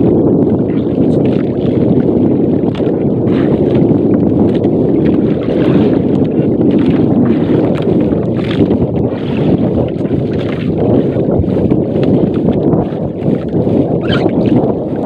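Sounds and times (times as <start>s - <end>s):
boat engine running: 0.0s - 15.0s
wind on microphone: 0.0s - 15.0s.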